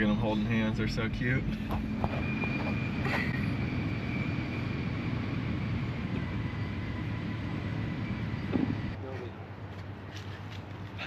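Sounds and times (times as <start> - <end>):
high-pitched whine: 0.0 - 9.0
vehicle engine humming: 0.0 - 11.0.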